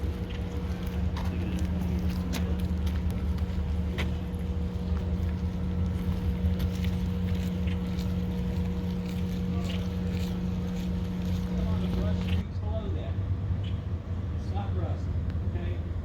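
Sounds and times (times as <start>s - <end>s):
low mechanical drone: 0.0s - 16.0s.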